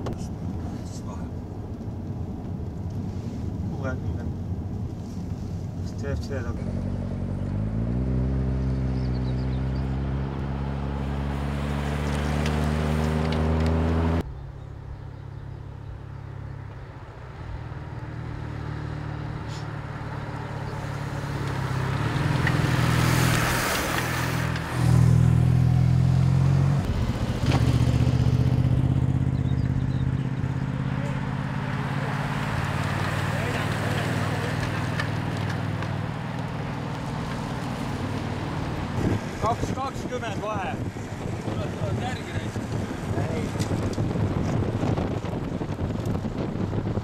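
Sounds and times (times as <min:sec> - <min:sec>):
vehicle engine running: 0:04.9 - 0:47.0.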